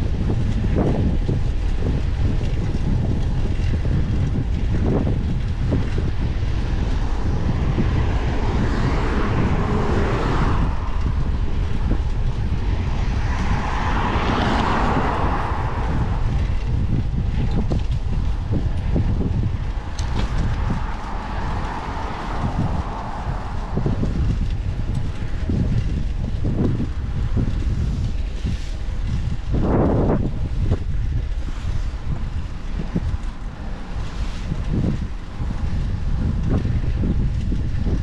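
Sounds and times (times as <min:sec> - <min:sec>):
passing traffic: 0:00.0 - 0:38.0
wind buffeting microphone: 0:00.0 - 0:38.0.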